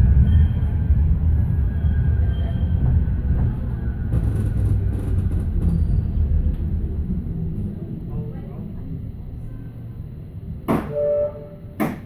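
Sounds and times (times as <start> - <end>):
tram rumbling on rails: 0.0 - 12.0.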